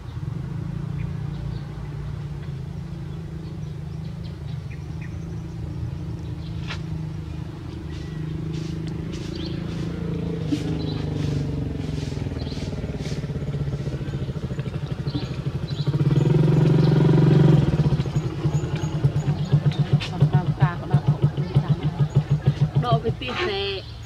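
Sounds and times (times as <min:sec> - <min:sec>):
engine running throbbing: 0:00.0 - 0:23.3.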